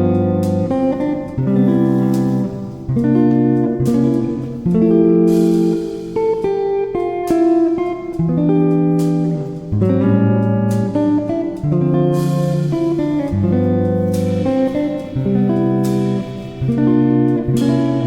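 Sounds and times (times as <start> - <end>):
strummed guitar chords: 0.0 - 18.0.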